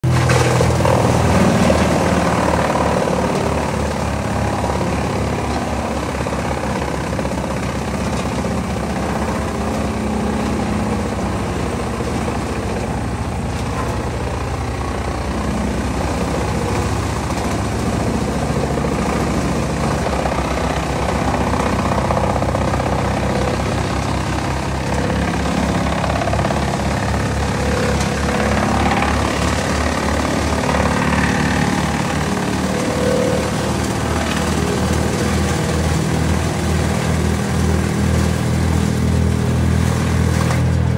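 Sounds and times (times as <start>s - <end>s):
wood chipper chipping branches: 0.0s - 40.9s.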